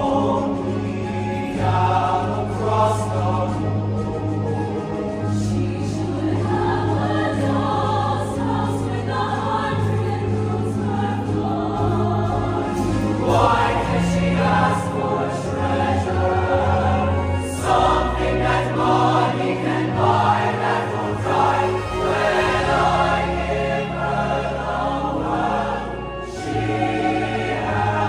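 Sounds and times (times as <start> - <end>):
choir singing in harmony: 0.0 - 28.0.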